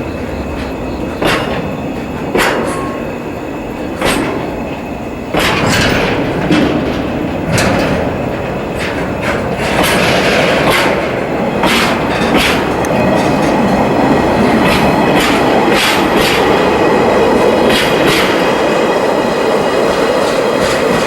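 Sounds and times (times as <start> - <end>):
freight train rumbling: 0.0 - 21.0
wheels clicking over rail joints: 0.0 - 21.0.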